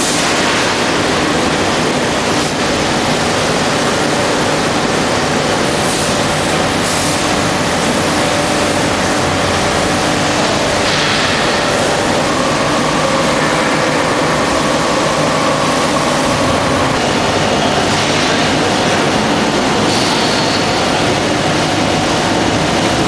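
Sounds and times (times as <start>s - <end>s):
hydraulic press hissing and humming: 0.0s - 23.0s.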